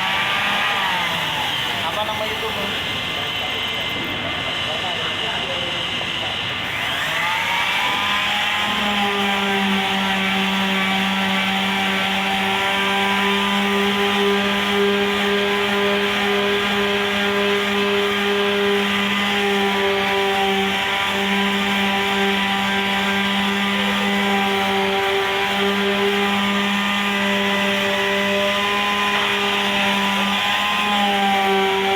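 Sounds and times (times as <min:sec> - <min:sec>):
power tool high-speed whine: 0:00.0 - 0:31.9.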